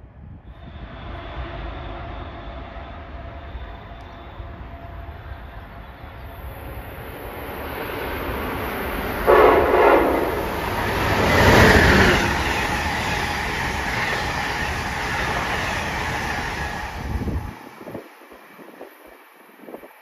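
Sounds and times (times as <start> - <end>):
train passing: 0.0 - 20.0
train wheel and air noise: 0.0 - 20.0.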